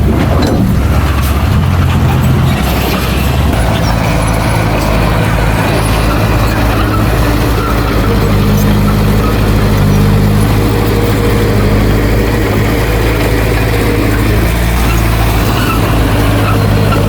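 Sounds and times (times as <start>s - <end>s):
diesel engine deep rumble: 0.0s - 17.0s.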